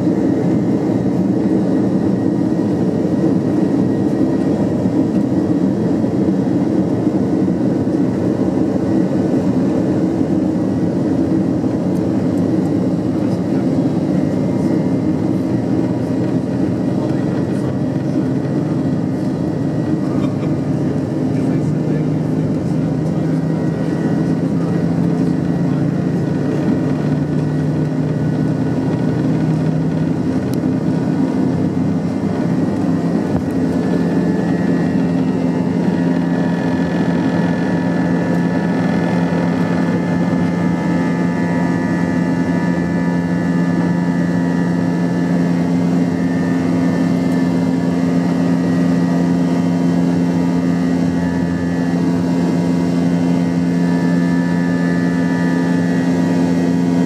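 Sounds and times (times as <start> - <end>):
high engine whine: 0.0 - 57.0
jet engine cabin drone: 0.0 - 57.0.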